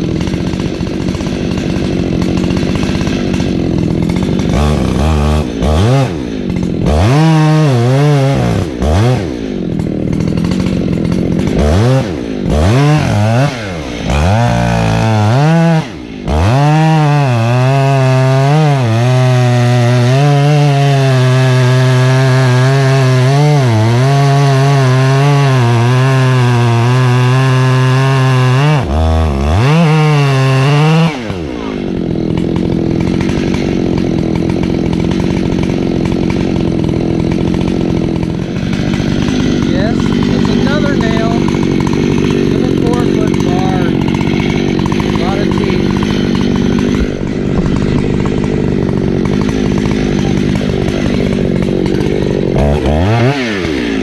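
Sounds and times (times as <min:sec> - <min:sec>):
chainsaw engine revving and cutting: 0:00.0 - 0:54.0.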